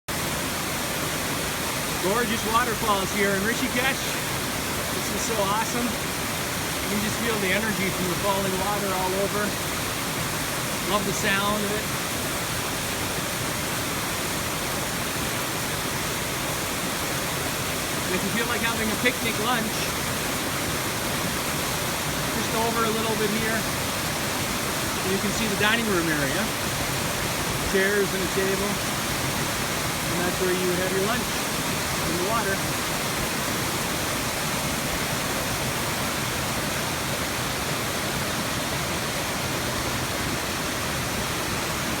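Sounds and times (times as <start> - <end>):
waterfall rushing onto rock: 0.1 - 42.0.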